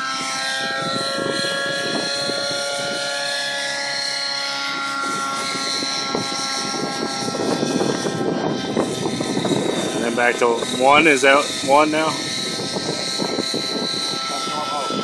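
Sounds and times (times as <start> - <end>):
model helicopter engine and rotor: 0.0 - 15.0.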